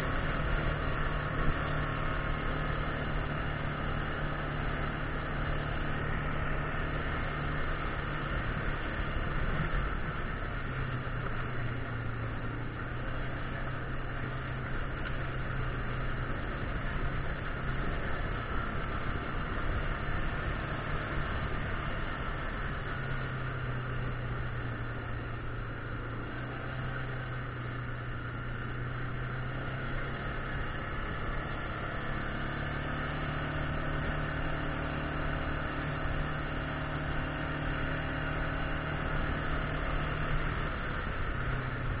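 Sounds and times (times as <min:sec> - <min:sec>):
atv engine cruising: 0:00.0 - 0:42.0.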